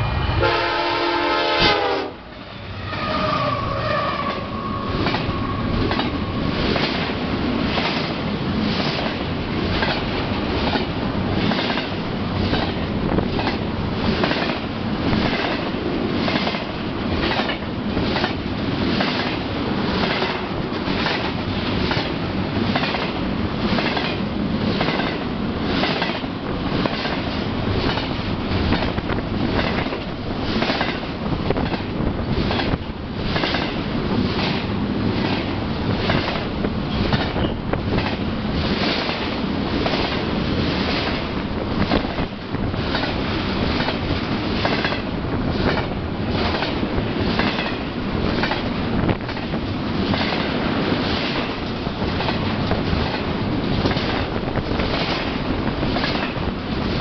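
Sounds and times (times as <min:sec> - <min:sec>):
train wheels clattering on rails: 0:04.2 - 0:57.0.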